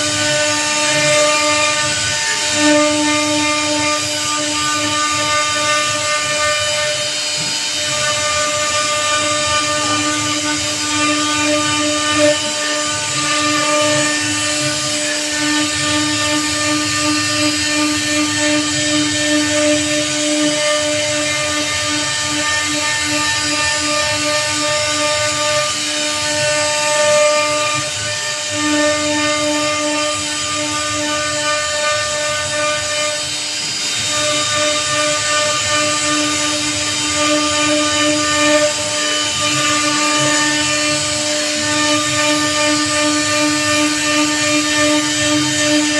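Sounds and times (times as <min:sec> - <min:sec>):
hiss of bit cutting wood: 0:00.0 - 0:45.9
router spindle whining: 0:00.0 - 0:45.9.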